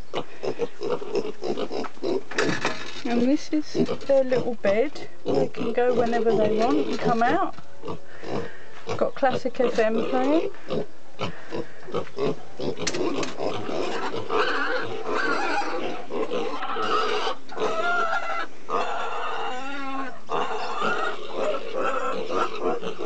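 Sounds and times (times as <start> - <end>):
piglets grunting: 0.0 - 2.6, 3.6 - 23.0.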